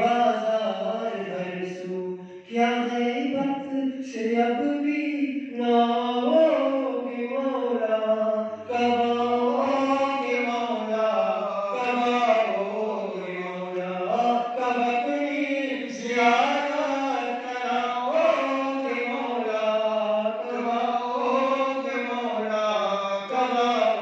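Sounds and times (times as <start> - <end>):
men chanting devotional recitation: 0.0 - 24.0.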